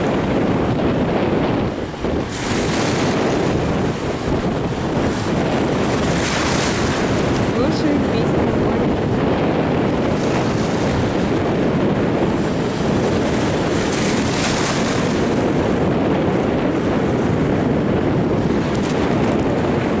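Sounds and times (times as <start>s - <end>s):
sea surf breaking on shore: 0.0s - 20.0s
wind on microphone: 0.0s - 20.0s.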